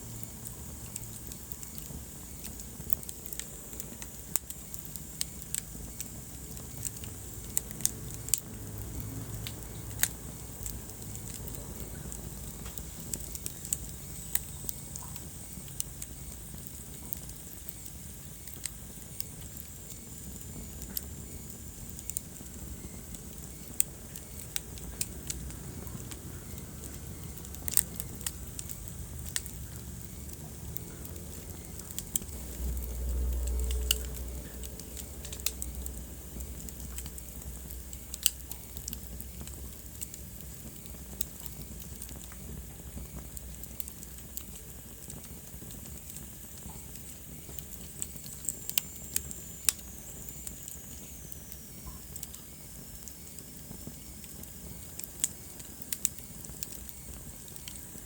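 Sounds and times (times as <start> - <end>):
fire low rumble and hiss: 0.0 - 58.0
wood fire crackling and popping: 0.0 - 58.0.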